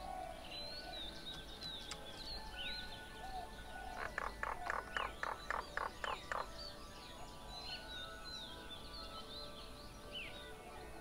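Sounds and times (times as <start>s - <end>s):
birds chirping and whistling: 0.0s - 10.9s.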